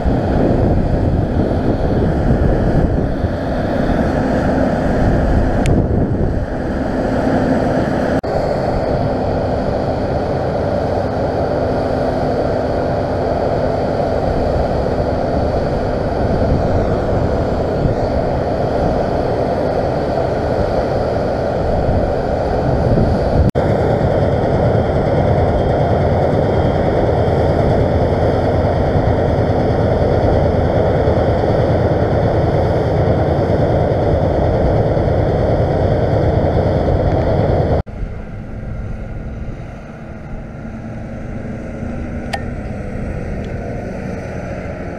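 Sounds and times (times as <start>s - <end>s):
continuous rushing noise: 0.0s - 44.9s
farm machinery diesel engines: 0.0s - 44.9s.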